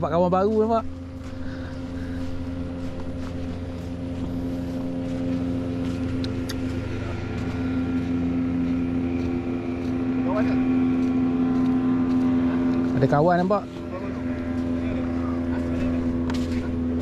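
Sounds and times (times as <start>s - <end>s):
motor engine running: 0.0s - 17.0s.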